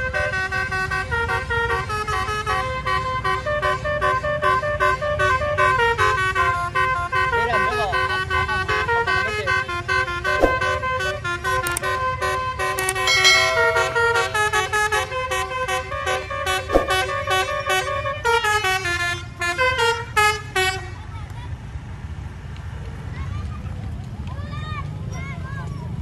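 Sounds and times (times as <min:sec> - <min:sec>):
bus melody horn: 0:00.0 - 0:20.8.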